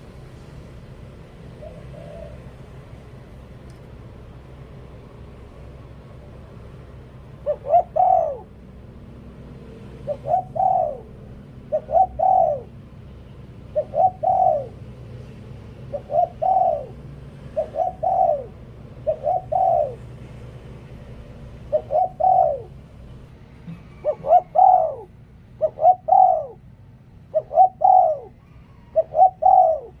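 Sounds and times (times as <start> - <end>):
dove cooing: 1.0 - 3.6, 6.7 - 8.6, 9.6 - 30.0.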